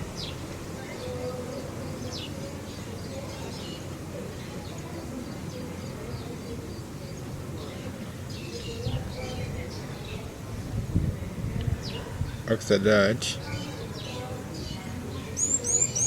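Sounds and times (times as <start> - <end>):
small birds chirping: 0.0 - 10.5, 11.6 - 12.4, 13.4 - 16.0.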